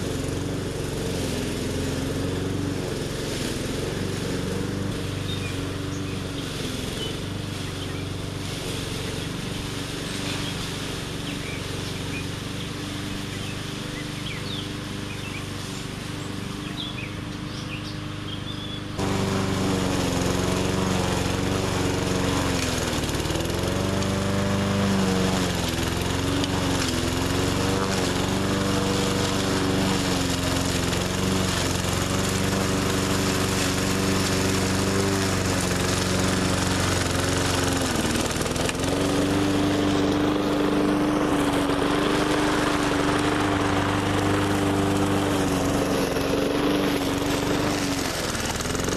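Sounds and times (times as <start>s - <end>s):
push mower engine cutting brush: 0.0s - 48.9s.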